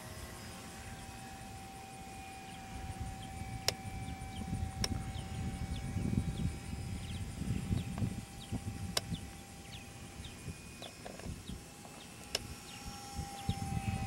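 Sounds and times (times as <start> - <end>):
electric motor whine overhead: 0.0 - 14.0
birds chirping: 0.2 - 14.0
wind rumbling on microphone: 0.7 - 14.0.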